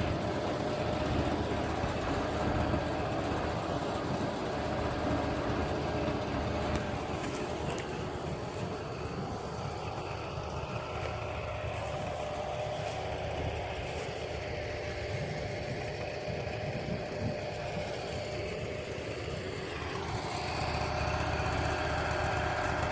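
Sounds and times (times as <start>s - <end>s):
engine idling: 0.0s - 22.9s.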